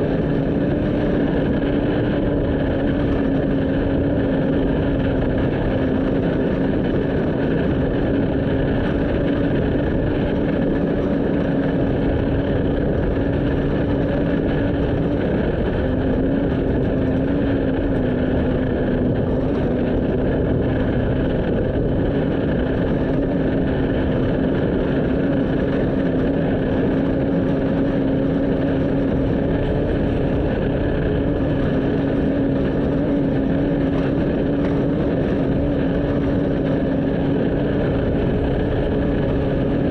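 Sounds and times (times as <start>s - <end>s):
road and wind noise: 0.0s - 39.9s
vehicle engine drone: 0.0s - 39.9s.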